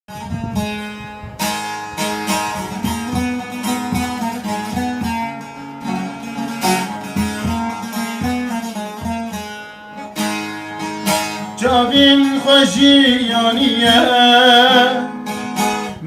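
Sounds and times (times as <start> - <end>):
plucked string instrument melody: 0.1 - 16.0
strummed strokes: 0.1 - 16.0.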